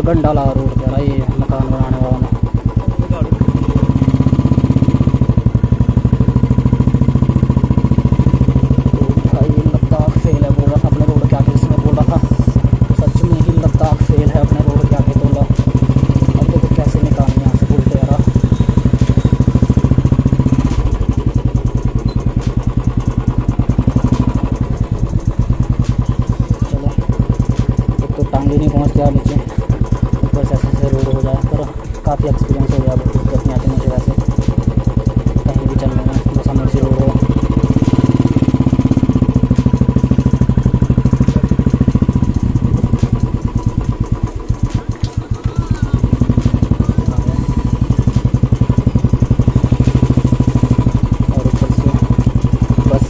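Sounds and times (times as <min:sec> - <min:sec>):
motorcycle engine at low revs: 0:00.0 - 0:53.0.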